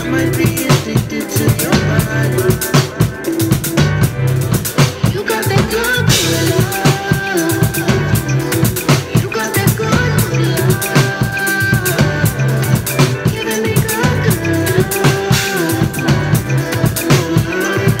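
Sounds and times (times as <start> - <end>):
drum kit playing: 0.0 - 18.0
recorded r and b song: 0.0 - 18.0.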